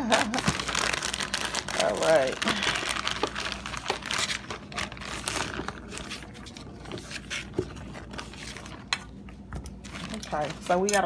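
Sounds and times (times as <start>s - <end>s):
thin plastic crinkling: 0.0s - 11.0s.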